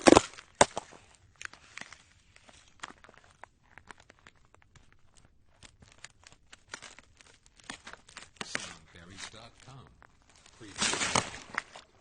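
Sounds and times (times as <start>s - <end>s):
footsteps crunching on ice: 0.0s - 12.0s.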